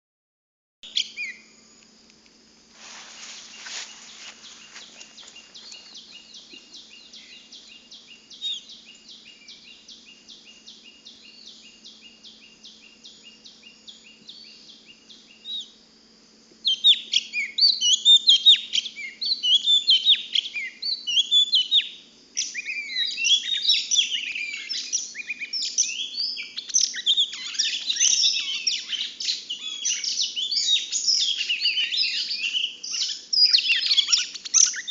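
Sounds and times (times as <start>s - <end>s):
bird chirping phrases: 3.0s - 15.8s, 16.7s - 34.9s.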